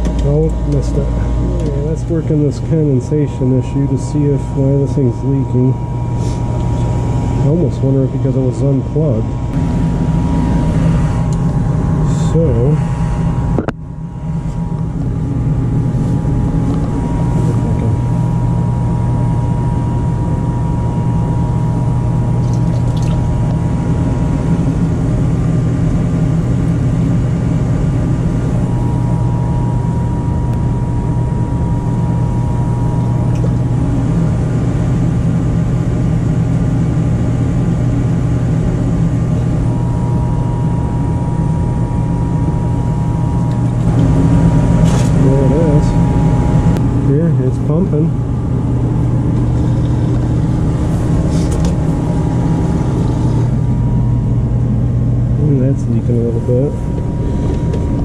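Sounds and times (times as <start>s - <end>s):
faint whine tones: 0.0s - 58.0s
furnace low mechanical hum: 0.0s - 58.0s.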